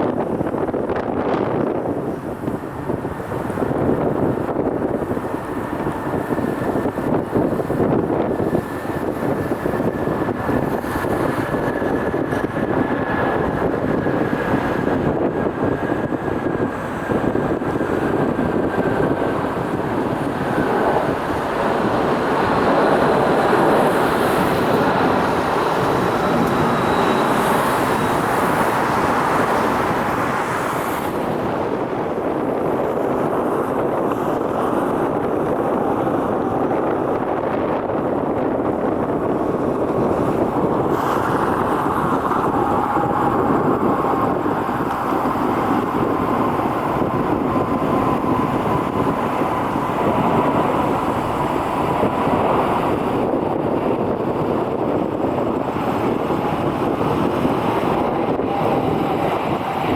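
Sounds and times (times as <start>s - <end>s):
jet engine rush and whine: 0.0s - 59.9s.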